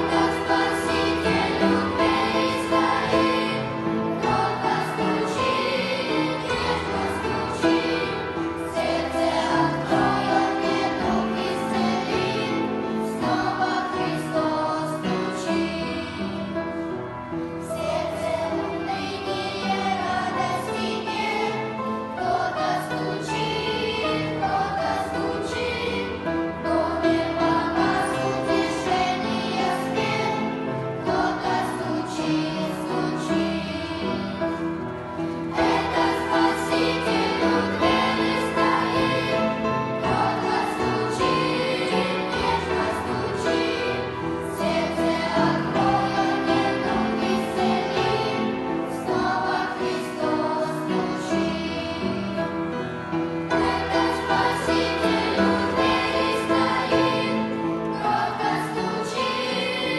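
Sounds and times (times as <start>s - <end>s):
choir singing in unison: 0.0s - 59.9s.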